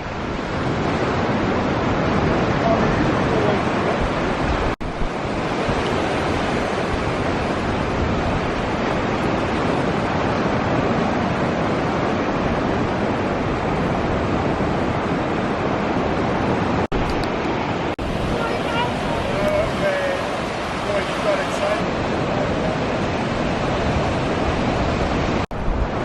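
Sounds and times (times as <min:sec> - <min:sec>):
ocean surf rushing: 0:00.0 - 0:26.0
wind buffeting microphone: 0:00.0 - 0:26.0.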